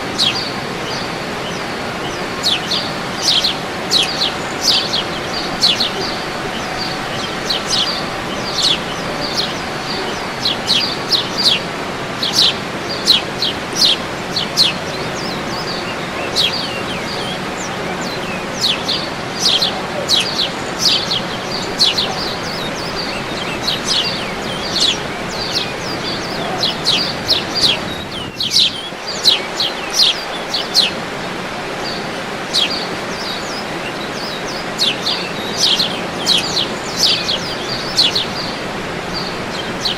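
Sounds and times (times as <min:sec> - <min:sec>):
birds chirping: 0:00.0 - 0:39.9
steady rushing background noise: 0:00.0 - 0:39.9.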